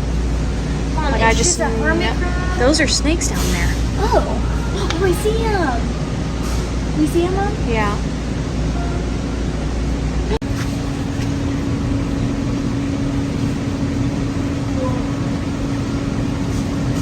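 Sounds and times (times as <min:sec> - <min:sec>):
constant hum tone: 0:00.0 - 0:17.0
mechanical hum: 0:00.0 - 0:17.0
rushing background noise: 0:00.0 - 0:17.0.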